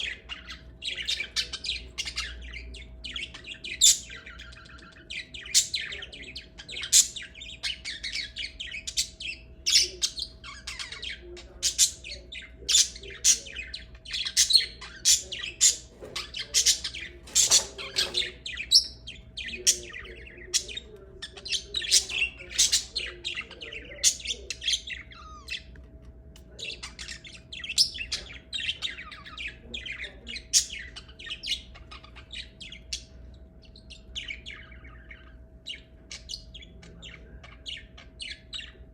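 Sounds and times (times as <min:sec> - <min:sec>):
lovebirds squawking and chirping: 0:00.0 - 0:38.9.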